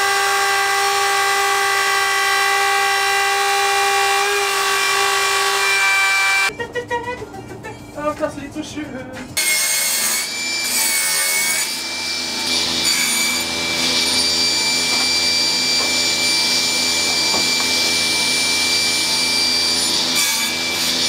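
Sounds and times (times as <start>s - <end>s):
table saw whining: 0.0s - 6.5s, 9.4s - 21.0s.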